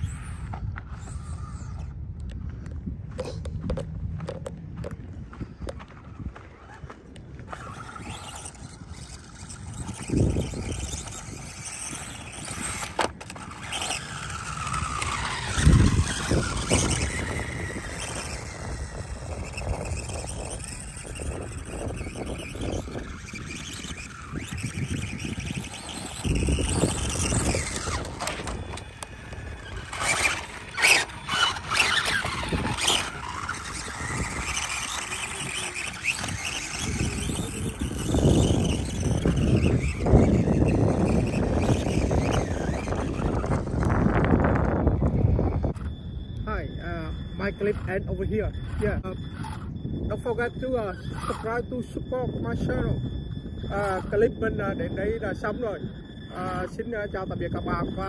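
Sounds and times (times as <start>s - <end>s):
electric motor whining: 0.0s - 2.6s, 3.5s - 58.0s.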